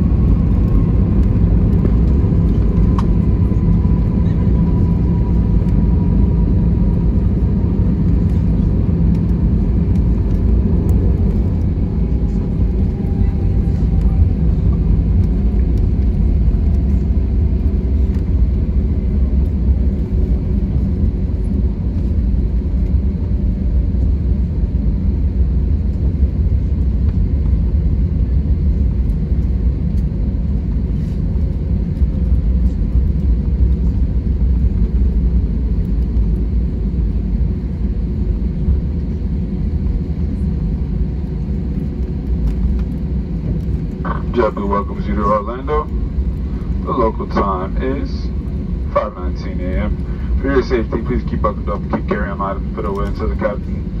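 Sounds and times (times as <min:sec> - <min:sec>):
aircraft engines rumbling: 0:00.0 - 0:54.0
faint engine whine: 0:00.0 - 0:54.0.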